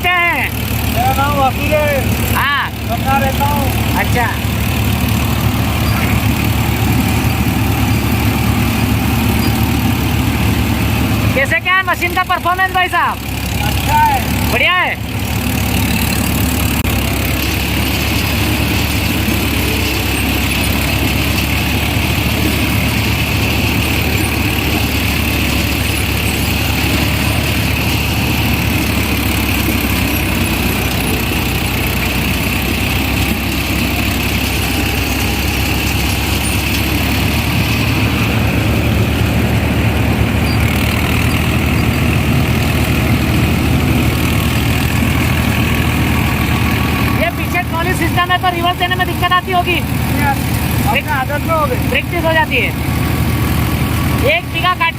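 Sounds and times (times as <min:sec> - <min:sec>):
diesel tractor engine drone: 0:00.0 - 0:54.9
harvester machinery whine: 0:00.0 - 0:54.9.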